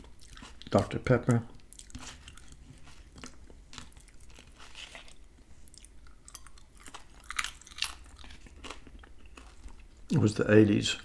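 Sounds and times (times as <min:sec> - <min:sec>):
chewing and wet mouth sounds: 0:00.0 - 0:10.2.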